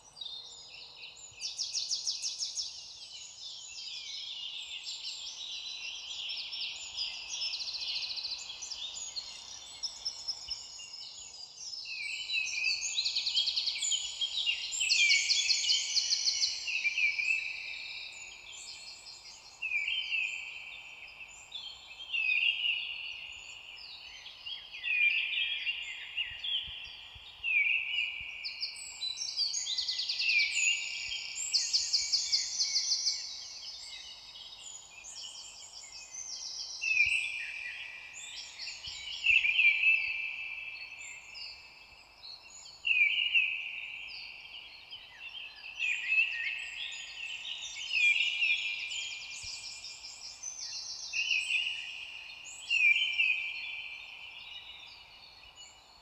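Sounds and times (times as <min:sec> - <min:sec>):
faint background hiss: 0:00.0 - 0:56.0
songbirds singing: 0:00.0 - 0:56.0.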